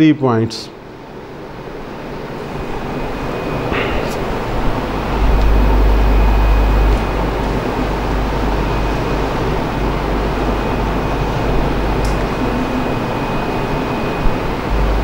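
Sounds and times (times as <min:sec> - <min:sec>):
low rumble: 0:02.4 - 0:15.0.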